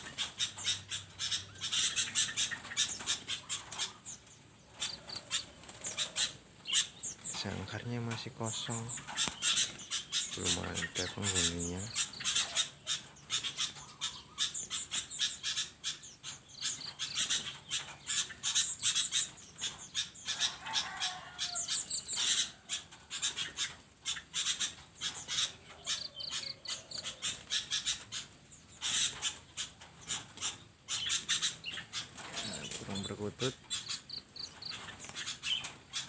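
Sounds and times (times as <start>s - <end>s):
caged birds chirping and squawking: 0.0s - 36.0s.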